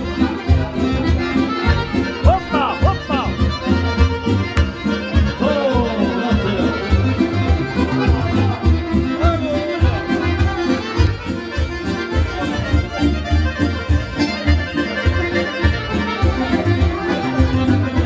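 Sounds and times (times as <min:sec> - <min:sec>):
accordion folk dance music: 0:00.0 - 0:18.0
pulsing bass: 0:00.0 - 0:18.0.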